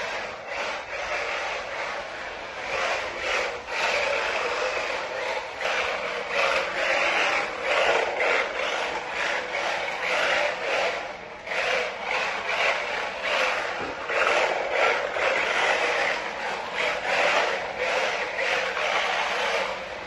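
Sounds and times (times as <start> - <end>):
toy car tyres sliding on floor: 0.0 - 20.0.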